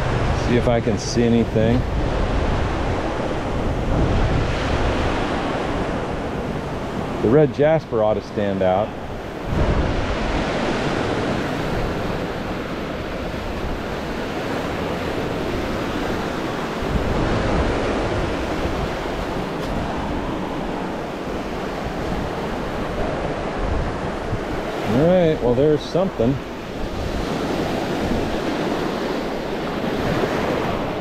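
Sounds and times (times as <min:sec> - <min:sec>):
surf washing onto shore: 0:00.0 - 0:31.0
wind buffeting microphone: 0:00.0 - 0:31.0.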